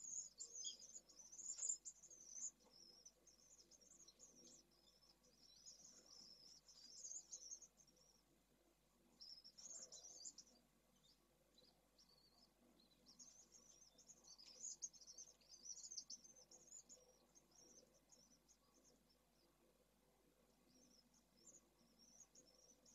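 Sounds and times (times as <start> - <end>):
swifts twittering: 0.0 - 8.3, 9.1 - 19.6, 20.5 - 22.9.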